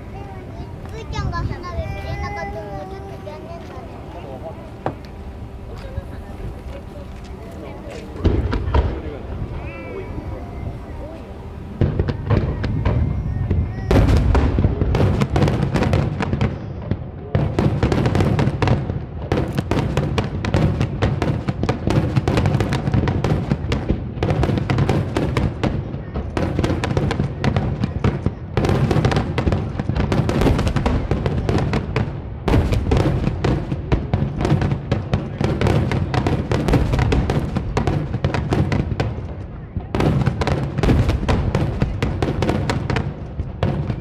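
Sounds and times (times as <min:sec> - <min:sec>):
fireworks cracking and booming: 0:00.0 - 0:44.0.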